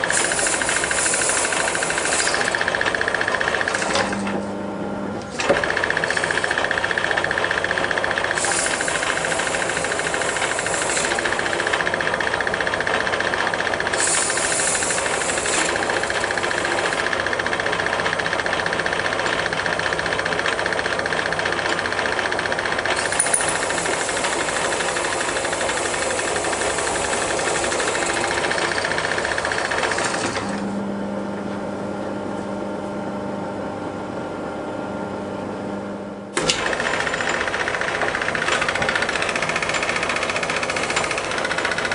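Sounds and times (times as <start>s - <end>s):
metal lathe whining: 0.0s - 4.3s, 5.3s - 30.8s, 36.4s - 41.9s.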